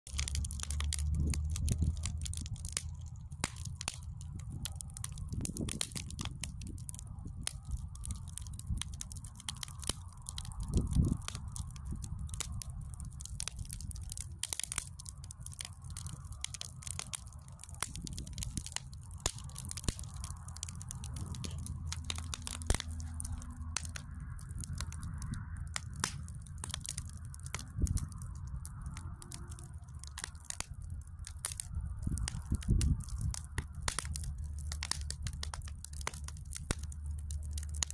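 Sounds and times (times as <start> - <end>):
firewood crackling and popping: 0.0 - 37.9
low rumble: 0.1 - 37.9.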